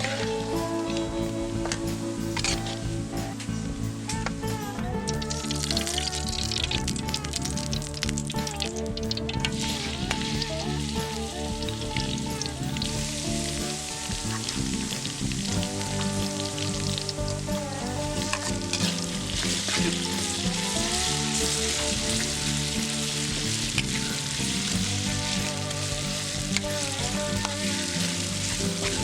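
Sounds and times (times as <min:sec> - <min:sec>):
background music of held notes: 0:00.0 - 0:29.0
food sizzling in a pan: 0:00.0 - 0:29.0.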